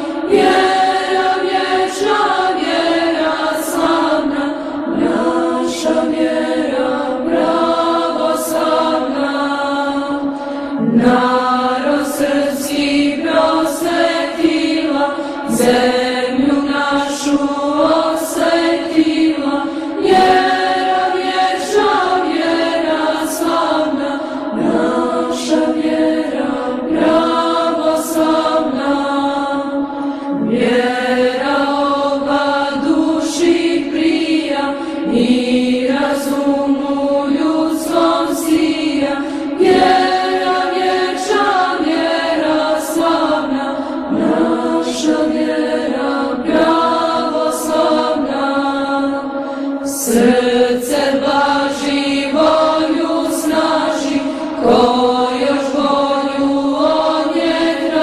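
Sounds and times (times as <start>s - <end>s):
voices chanting: 0.0s - 58.0s.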